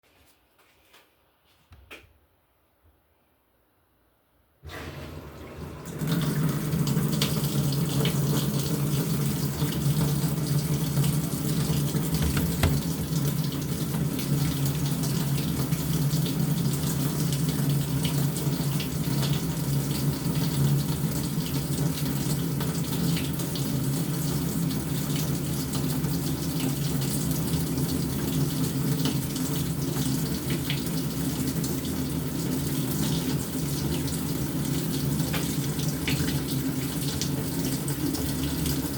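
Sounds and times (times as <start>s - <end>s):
water rushing into washing machine: 4.6s - 38.9s.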